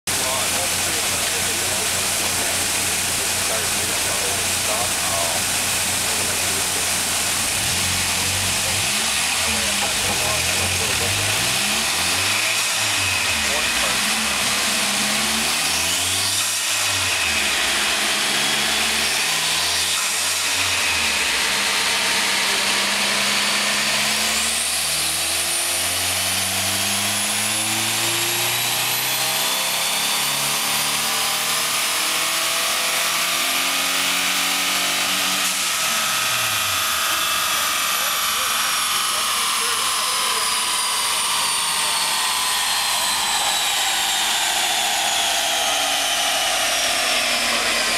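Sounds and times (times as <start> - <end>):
car engine revving on dyno: 0.1 - 47.9
turbo whine: 0.1 - 47.9.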